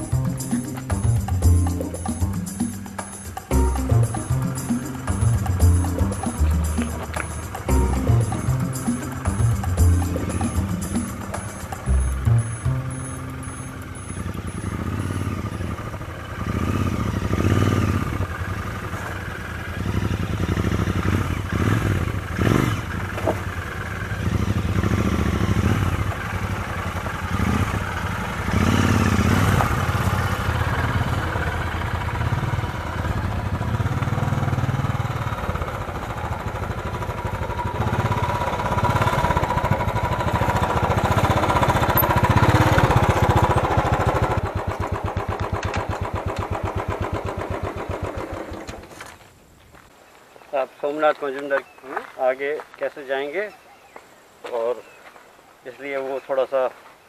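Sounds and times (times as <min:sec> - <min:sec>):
motorcycle engines revving: 0:00.0 - 0:49.1.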